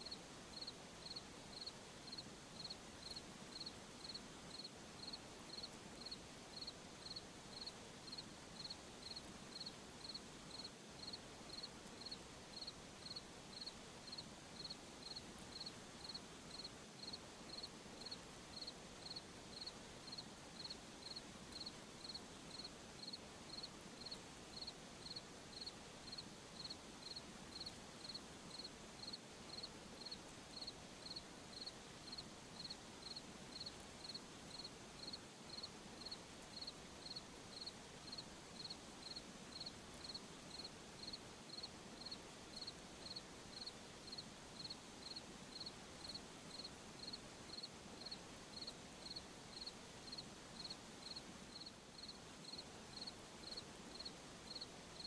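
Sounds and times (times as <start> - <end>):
cricket chirping: 0.0 - 55.0
soft background hiss: 0.0 - 55.0.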